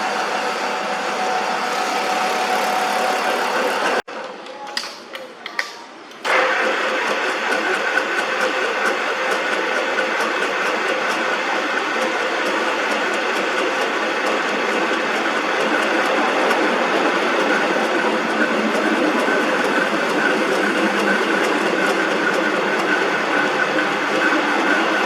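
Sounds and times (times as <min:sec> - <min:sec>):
metal lathe running: 0:00.0 - 0:04.0, 0:06.3 - 0:25.0.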